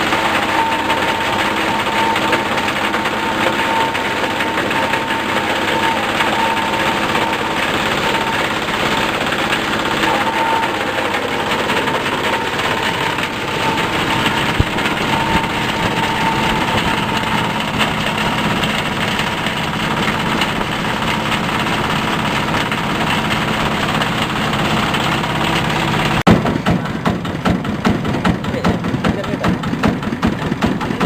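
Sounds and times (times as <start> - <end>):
shredding machine running: 0.0 - 31.0.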